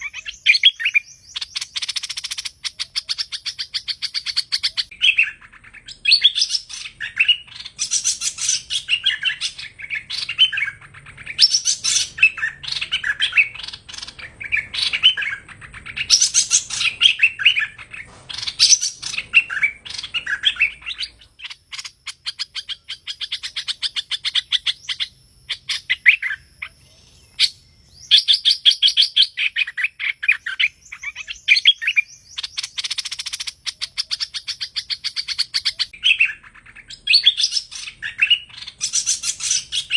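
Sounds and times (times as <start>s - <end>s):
songbird chirps and whistles: 0.0s - 39.9s.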